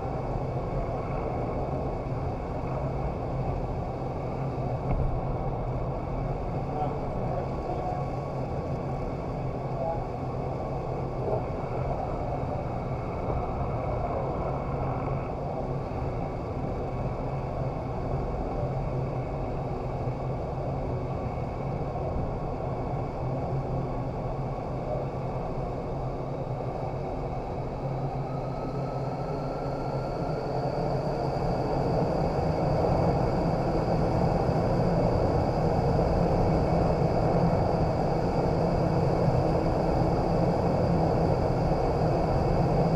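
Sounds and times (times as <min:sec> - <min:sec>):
faint whine: 0:00.0 - 0:42.9
rush of air in wind tunnel: 0:00.0 - 0:42.9.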